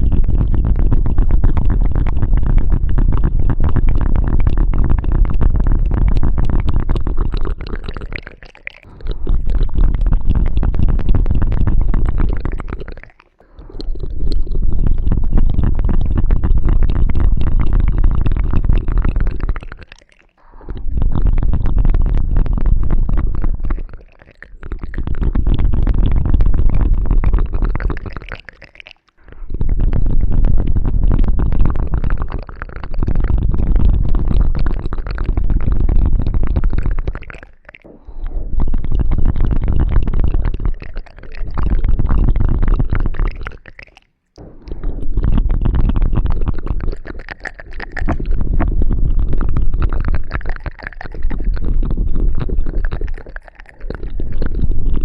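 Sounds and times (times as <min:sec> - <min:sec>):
rubbing and scratching on microphone: 0:00.0 - 0:55.0.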